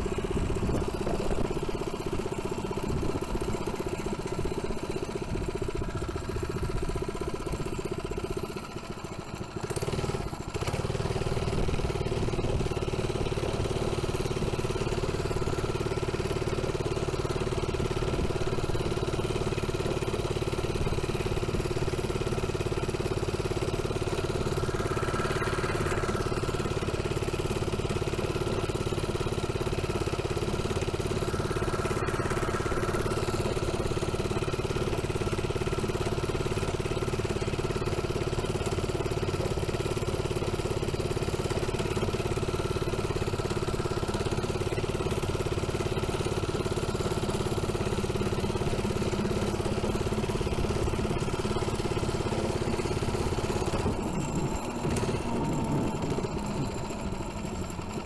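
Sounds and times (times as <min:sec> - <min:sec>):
small engine running steadily: 0:00.0 - 0:58.0.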